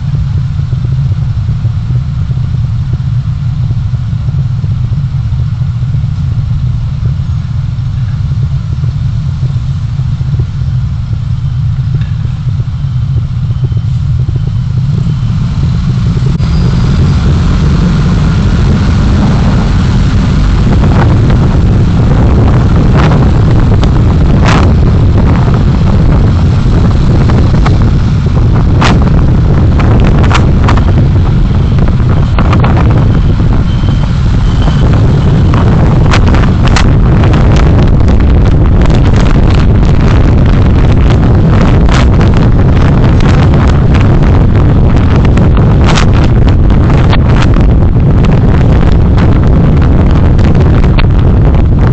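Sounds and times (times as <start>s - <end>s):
vehicle road and engine rumble: 0.0s - 51.9s.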